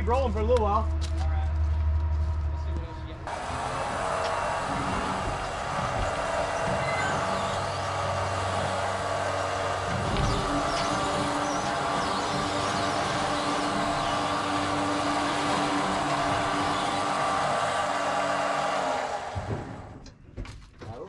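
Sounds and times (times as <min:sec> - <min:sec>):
mechanical winch hum: 0:03.2 - 0:20.2.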